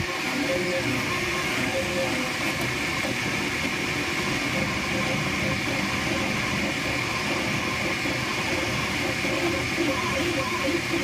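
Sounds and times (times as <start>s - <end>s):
printer fans and motors whirring: 0.0s - 11.0s.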